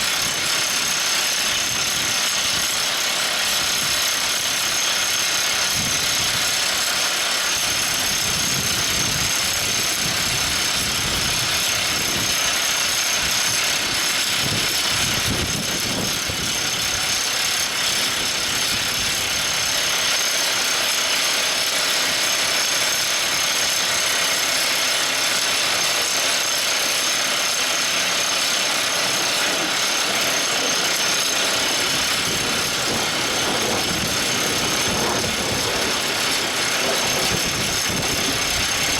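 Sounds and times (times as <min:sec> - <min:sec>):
drill rig running: 0:00.0 - 0:38.9
high steady whining tones: 0:00.0 - 0:38.9.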